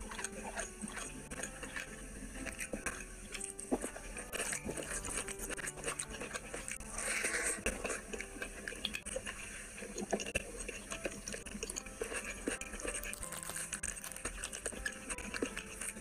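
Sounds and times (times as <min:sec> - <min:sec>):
chewing: 0:00.0 - 0:16.0
fingers mixing rice on a plate: 0:00.0 - 0:16.0.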